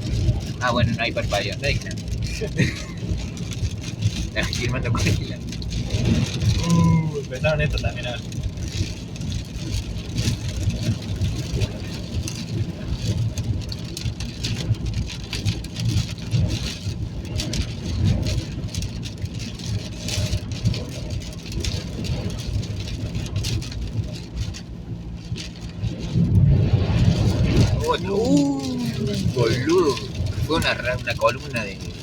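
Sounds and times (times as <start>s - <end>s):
car engine and road rumble: 0.0s - 32.0s
wind and rain buffeting car: 0.0s - 32.0s.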